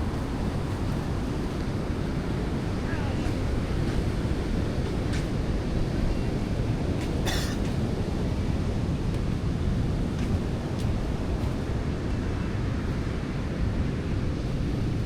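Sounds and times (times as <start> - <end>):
heavy surf rumbling: 0.0 - 15.0.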